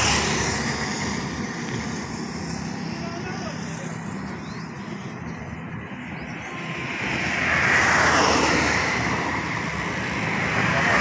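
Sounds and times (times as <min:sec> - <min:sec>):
van passing on highway: 0:00.0 - 0:11.0.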